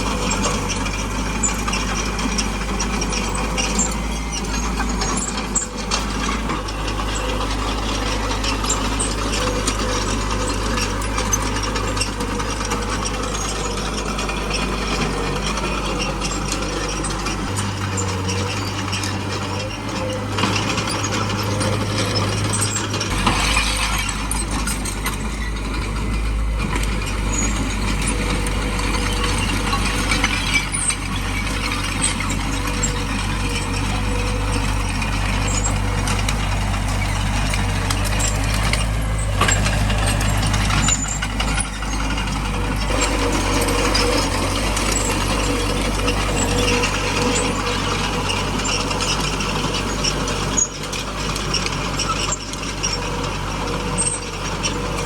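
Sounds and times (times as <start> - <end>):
bulldozer diesel engine running: 0.0 - 55.0
steel tracks clanking and rattling: 0.0 - 55.0.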